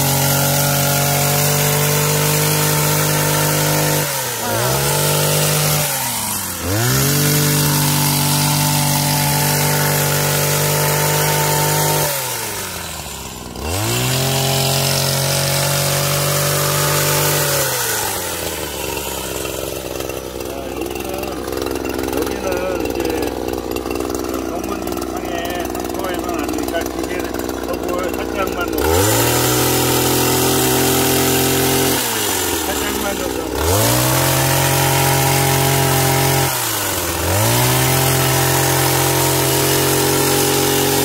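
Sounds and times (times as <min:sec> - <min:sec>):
hedge trimmer engine running: 0:00.0 - 0:41.0.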